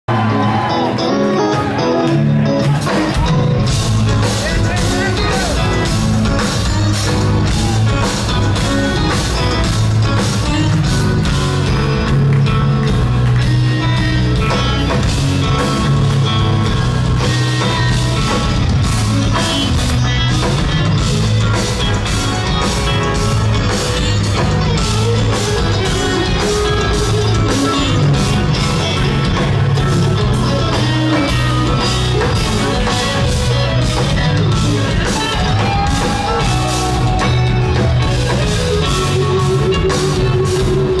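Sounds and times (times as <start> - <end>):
drum kit: 0.1 - 41.0
electric guitars: 0.1 - 41.0.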